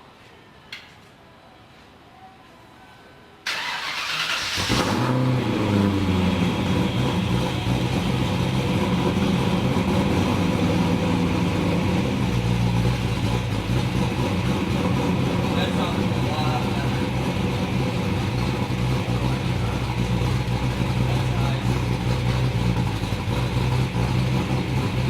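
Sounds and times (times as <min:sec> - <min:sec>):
car engine cranking and idling: 0:03.5 - 0:25.0.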